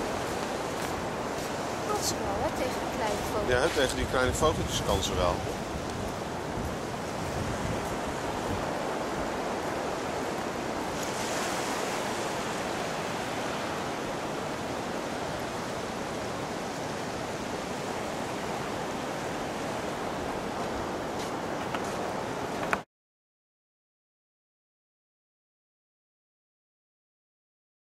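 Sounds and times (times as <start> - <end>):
small waves breaking on beach: 0.0 - 22.8.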